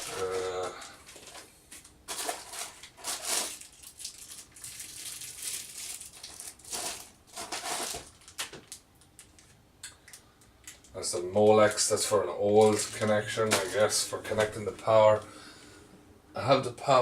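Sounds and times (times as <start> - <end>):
handling noises: 0.0 - 9.6, 10.6 - 15.3
plastic packaging crinkling: 0.0 - 15.3.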